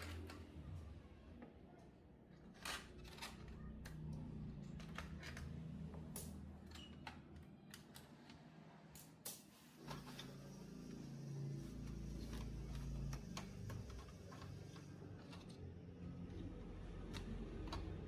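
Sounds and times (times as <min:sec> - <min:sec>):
small parts and tools clicking: 0:01.8 - 0:18.0.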